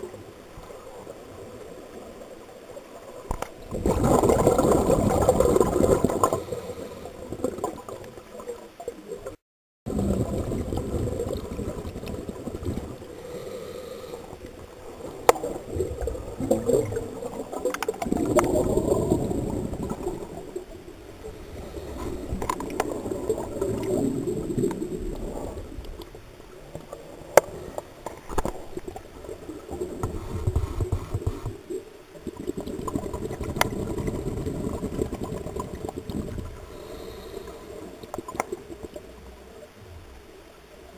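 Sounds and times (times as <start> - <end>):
underwater regulator bubbles: 3.3 - 8.6, 9.2 - 39.5.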